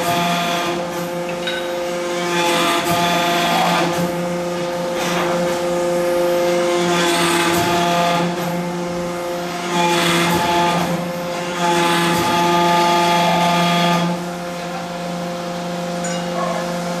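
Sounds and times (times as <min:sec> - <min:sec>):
hydraulic press humming: 0:00.0 - 0:17.0.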